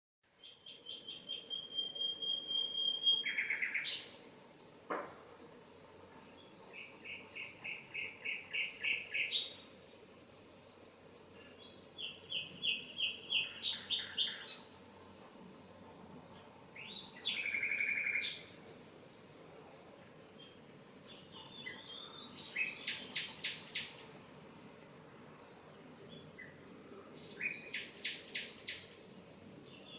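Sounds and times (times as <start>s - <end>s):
nightingale singing: 0.3s - 4.4s, 6.3s - 9.7s, 11.4s - 15.0s, 16.0s - 19.3s, 20.4s - 29.9s.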